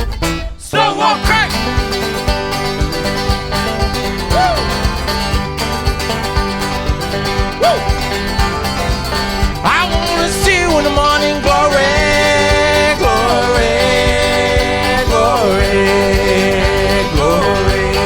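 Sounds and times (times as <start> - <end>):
banjo and guitar picking: 0.0 - 18.0
sliding held melody notes: 1.2 - 18.0.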